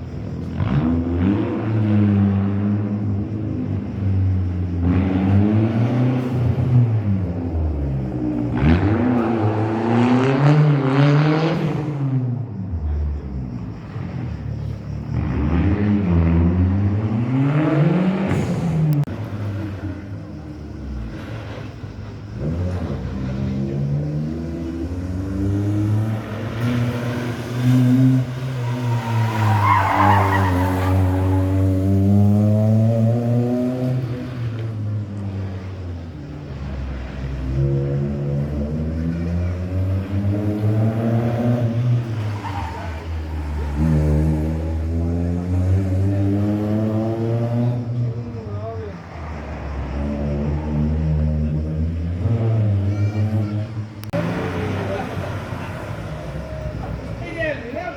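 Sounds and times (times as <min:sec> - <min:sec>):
rally car engine revving: 0:00.1 - 0:57.7.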